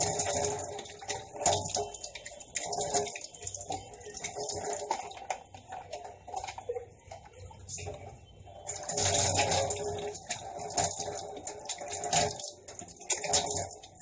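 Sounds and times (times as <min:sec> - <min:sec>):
water dripping: 0:00.0 - 0:14.0.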